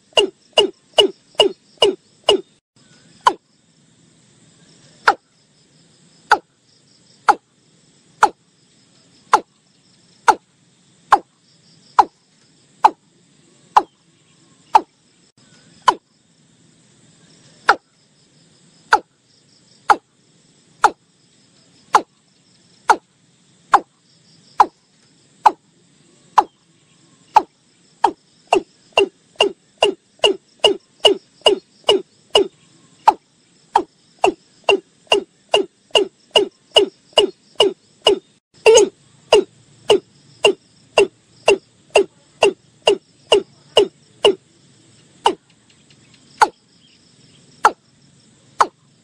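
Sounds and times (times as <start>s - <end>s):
faint crickets trilling: 0.0s - 49.0s.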